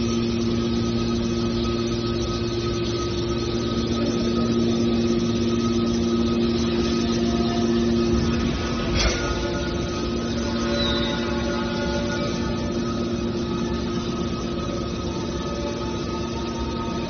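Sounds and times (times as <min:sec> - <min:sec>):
hydraulic machine drone: 0:00.0 - 0:17.0.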